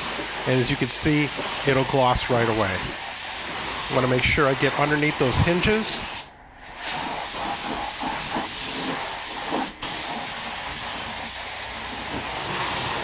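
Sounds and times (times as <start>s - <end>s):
paint spray gun hissing: 0.0s - 13.0s.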